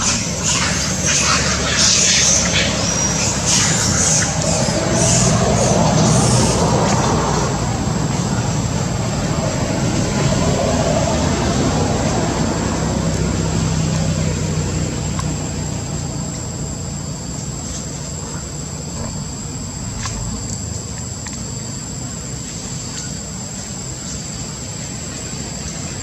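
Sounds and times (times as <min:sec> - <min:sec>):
high steady whine: 0:00.0 - 0:26.0
vehicle engine rumbling: 0:00.0 - 0:26.0.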